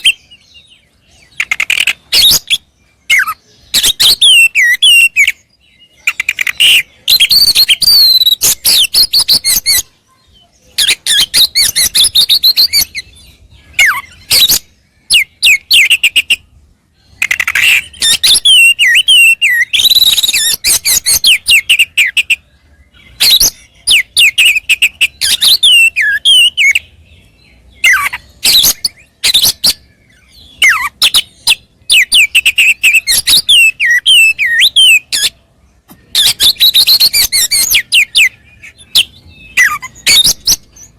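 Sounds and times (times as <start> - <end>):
bird singing whistles and chirps: 0.0 - 40.9.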